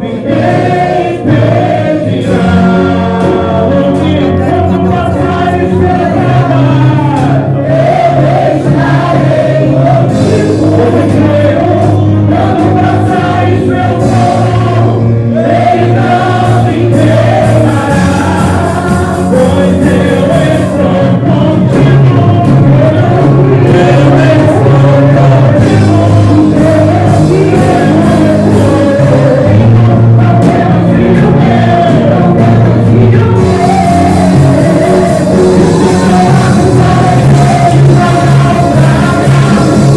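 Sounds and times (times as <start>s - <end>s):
group singing gospel: 0.0s - 39.9s
instrumental backing: 0.0s - 39.9s.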